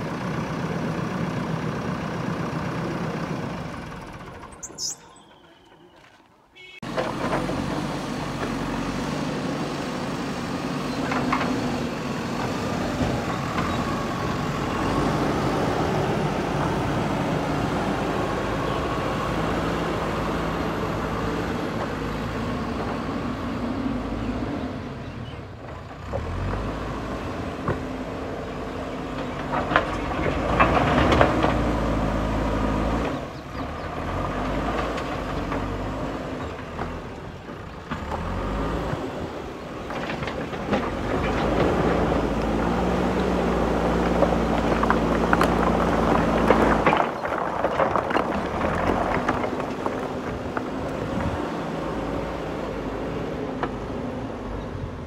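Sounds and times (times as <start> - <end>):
diesel engine working: 0.0 - 6.0, 6.8 - 55.0.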